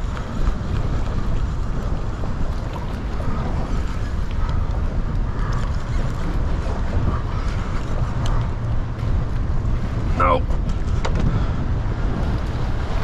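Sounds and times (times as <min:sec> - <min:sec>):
water lapping against hull: 0:00.0 - 0:13.0
wind noise on microphone: 0:00.0 - 0:13.0.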